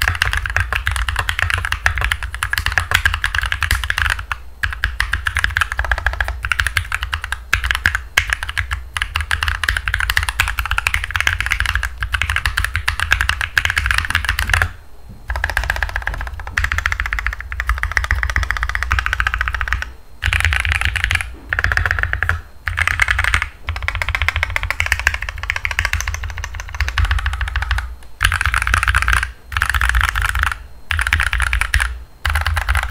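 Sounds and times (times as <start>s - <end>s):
mechanical keyboard typing: 0.0s - 32.9s
low microphone hum: 5.9s - 32.9s.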